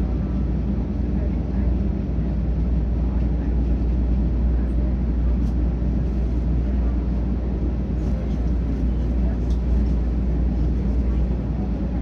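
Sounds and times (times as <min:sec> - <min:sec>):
streetcar rumbling along track: 0:00.0 - 0:12.0.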